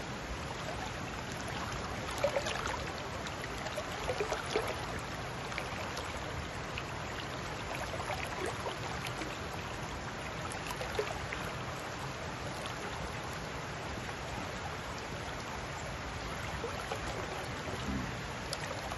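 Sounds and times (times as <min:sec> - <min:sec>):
river flowing over rocks: 0:00.0 - 0:18.9
water splashes and gurgles: 0:00.0 - 0:18.9.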